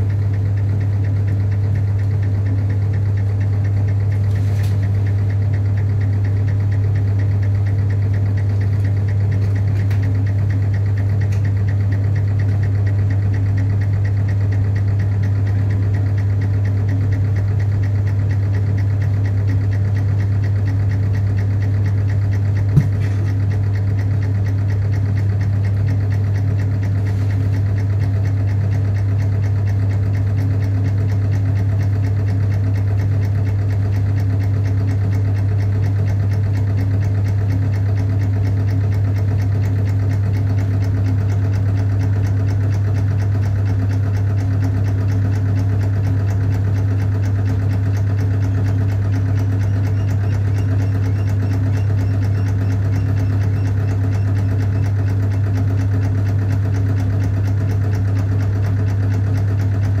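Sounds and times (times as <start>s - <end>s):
hydraulic pump humming: 0.0s - 60.0s.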